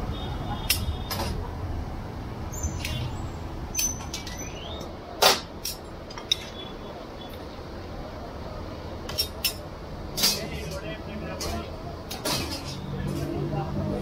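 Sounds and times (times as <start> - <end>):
low hum of street noise: 0.0 - 14.0.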